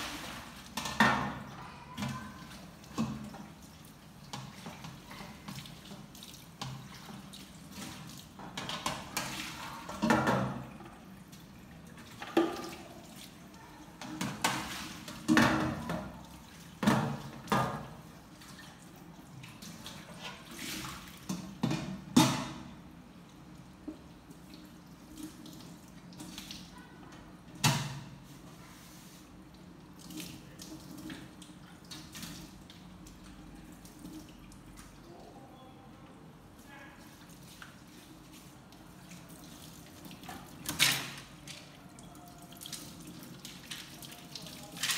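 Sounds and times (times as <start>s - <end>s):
water sloshing in basin: 0.0s - 44.9s.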